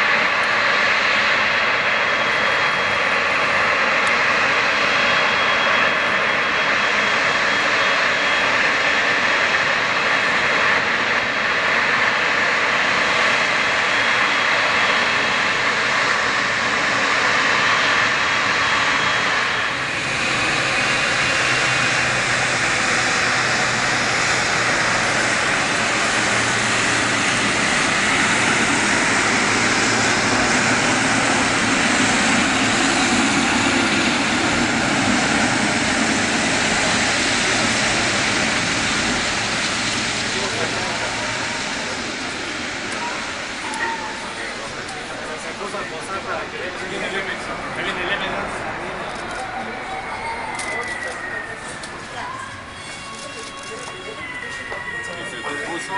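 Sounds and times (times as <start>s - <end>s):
jet engines at taxi power: 0.0s - 55.9s.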